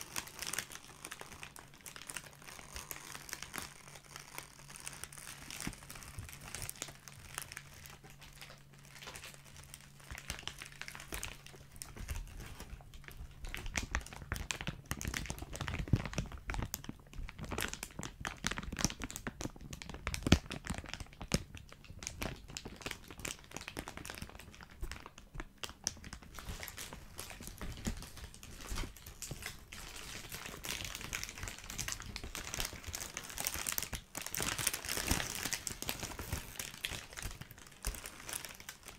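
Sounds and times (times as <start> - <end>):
plastic bag crinkling: 0.0 - 38.9.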